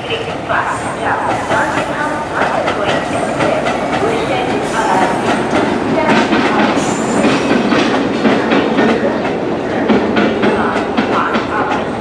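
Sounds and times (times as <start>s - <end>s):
train rumble: 0.0s - 12.0s
train wheels clattering: 0.0s - 12.0s.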